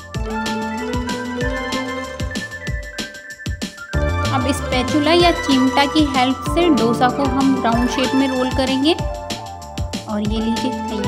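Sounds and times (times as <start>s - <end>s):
background music with held notes: 0.0s - 11.0s
steady drum beat: 0.9s - 10.8s.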